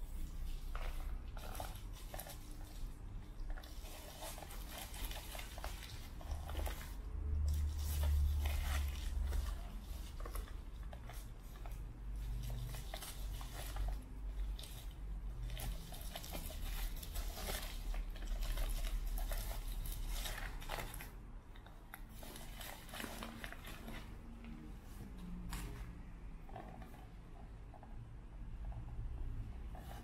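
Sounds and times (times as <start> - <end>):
bubble wrap crinkling: 0.0 - 25.9.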